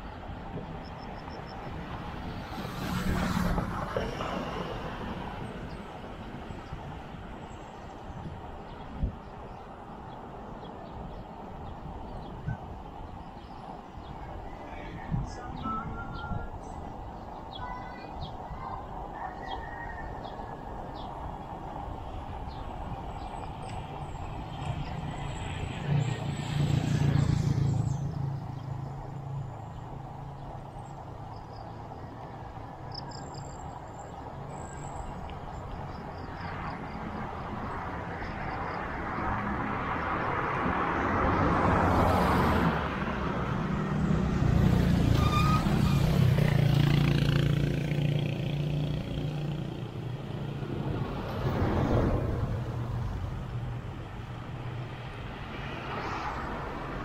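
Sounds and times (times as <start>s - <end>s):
vehicles passing on road: 0.0s - 57.0s.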